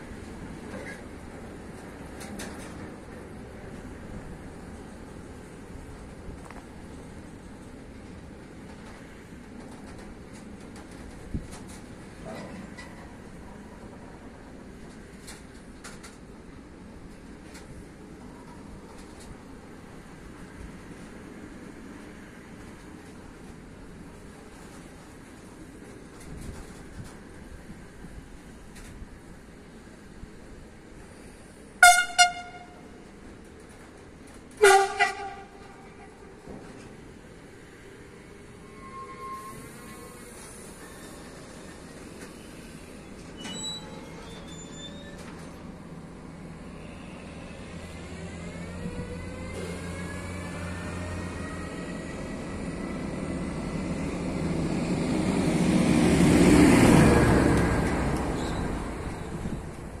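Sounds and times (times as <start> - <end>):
freight train rumbling past: 0.0 - 60.0.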